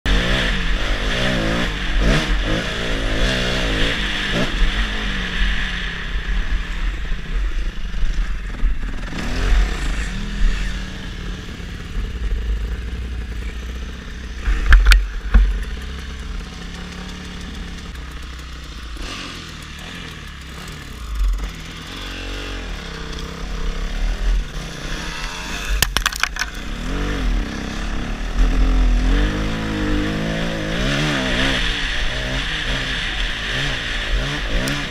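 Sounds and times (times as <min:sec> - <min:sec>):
motorbike engine revving: 0:00.1 - 0:34.9.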